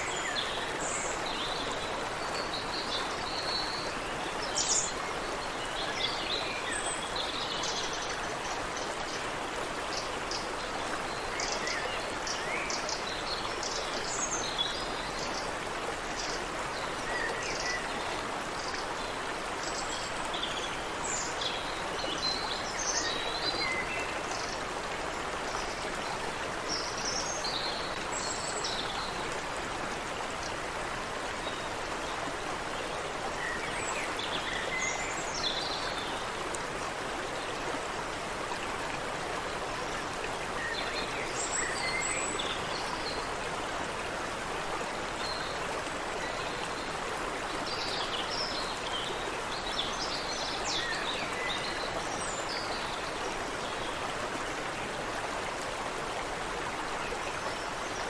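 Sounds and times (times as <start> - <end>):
water running over rocks: 0.0 - 58.0.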